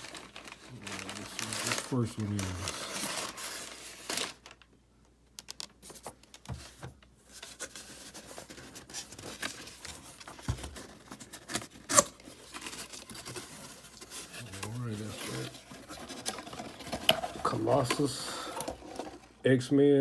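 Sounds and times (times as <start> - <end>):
packaging rustling and tearing: 0.0 - 4.7, 5.6 - 19.4.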